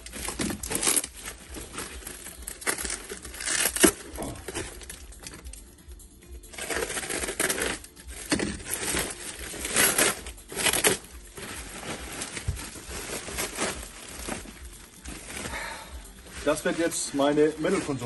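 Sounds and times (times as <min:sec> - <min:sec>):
plastic film and bubble wrap crinkling: 0:00.0 - 0:05.6, 0:06.4 - 0:18.0.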